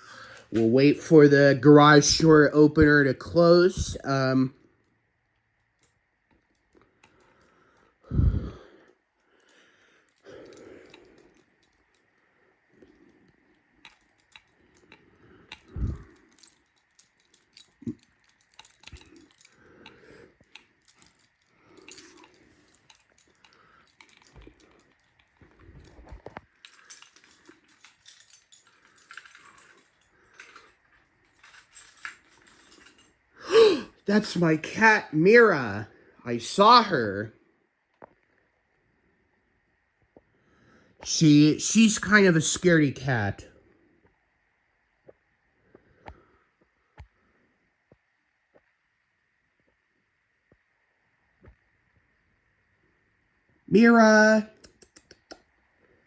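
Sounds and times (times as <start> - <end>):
faint high tone hum: 0.0 - 54.6.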